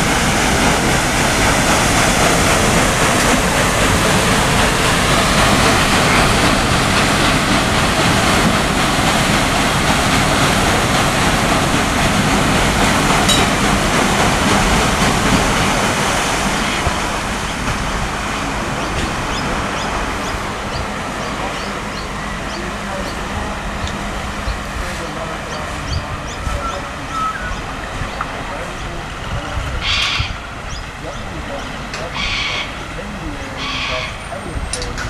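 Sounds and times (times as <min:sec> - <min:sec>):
paddle wheel churning water: 0:00.0 - 0:35.0.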